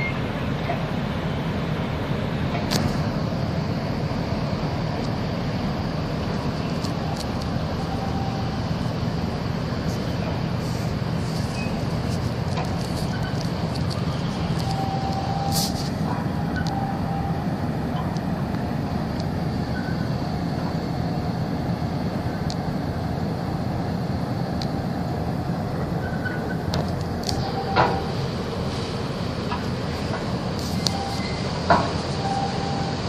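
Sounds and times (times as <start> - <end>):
ship diesel engines rumbling: 0.0 - 33.0
water noise: 0.0 - 33.0
wind: 0.0 - 33.0.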